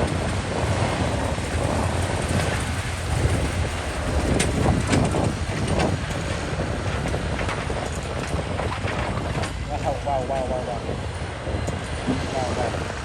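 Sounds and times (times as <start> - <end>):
bulldozer diesel drone: 0.0 - 13.0.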